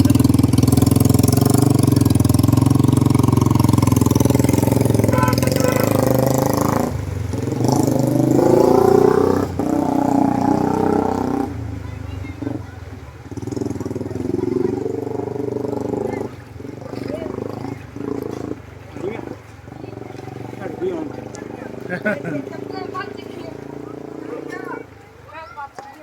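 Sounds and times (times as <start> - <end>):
vehicle engine revving: 0.0 - 25.2.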